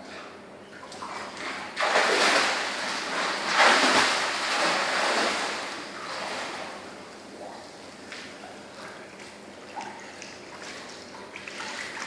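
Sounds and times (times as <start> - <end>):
pool water splashing: 0.8 - 7.6, 8.8 - 12.0.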